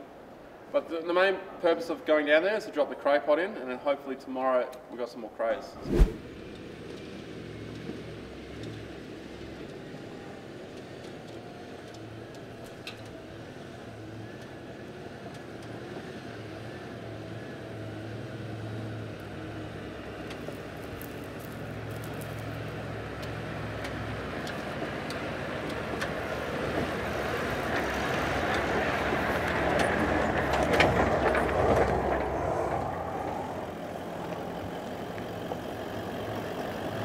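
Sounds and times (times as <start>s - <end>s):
vehicle engine drone: 5.8s - 37.0s.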